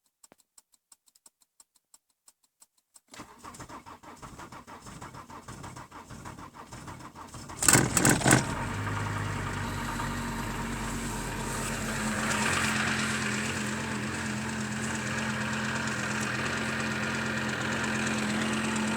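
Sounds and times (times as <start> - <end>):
diesel engine cranking and idling: 3.2 - 18.9.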